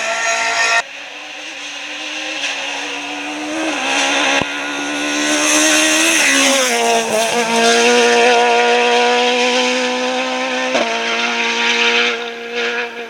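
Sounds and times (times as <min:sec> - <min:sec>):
rally car engine running hard: 0:00.8 - 0:13.0.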